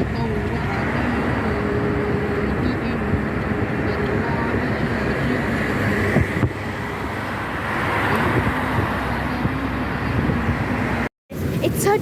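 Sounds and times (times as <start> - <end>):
traffic on wet streets: 0.0 - 12.0.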